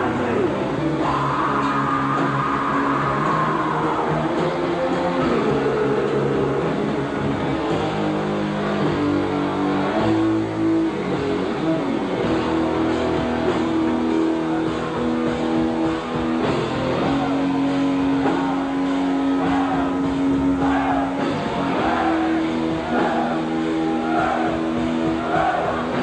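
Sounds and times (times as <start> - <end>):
drums: 0.0 - 26.0
electric guitar chords: 0.0 - 26.0.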